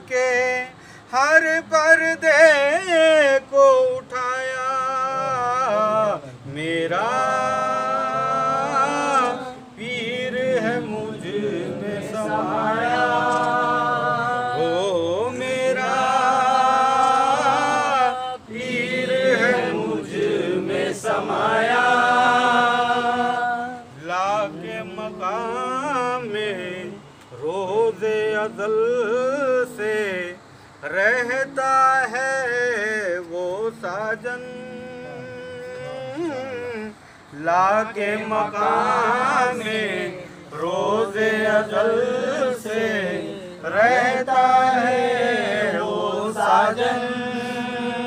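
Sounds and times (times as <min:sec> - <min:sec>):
men singing devotional song: 0:00.0 - 0:48.0.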